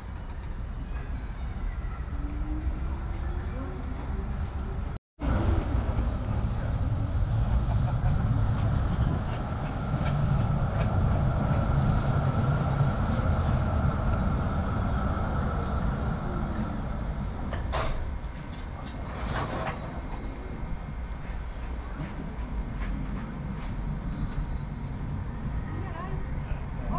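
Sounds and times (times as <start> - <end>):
tram rumbling on street track: 0.0 - 26.9.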